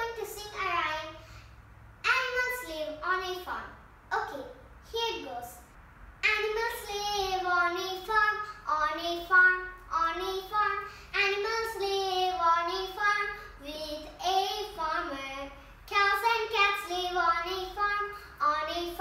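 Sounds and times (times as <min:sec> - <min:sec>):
girl singing: 0:00.0 - 0:01.2, 0:02.0 - 0:03.6, 0:06.2 - 0:19.0.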